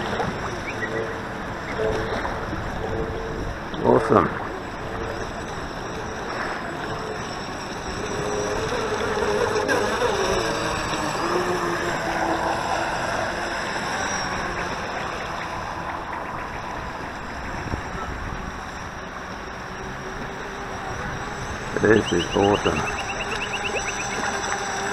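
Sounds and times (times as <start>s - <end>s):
hiss of wind and water: 0.0s - 24.9s
electric motor whining: 4.4s - 24.9s.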